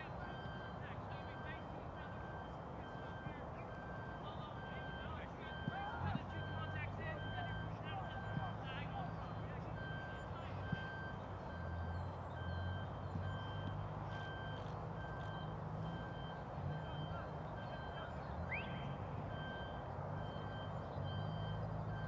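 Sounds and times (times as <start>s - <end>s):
reversing alarm beeping: 0.0s - 22.0s
vehicle engine hum: 0.0s - 22.0s.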